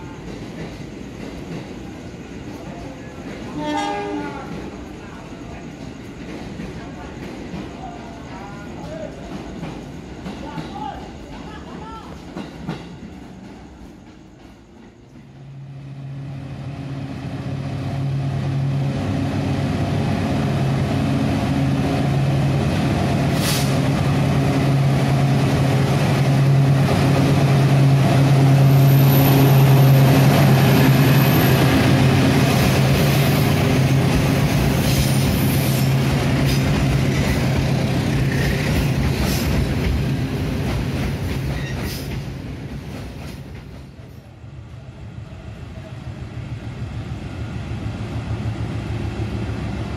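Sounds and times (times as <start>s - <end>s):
train wheel noise: 0.0s - 49.9s.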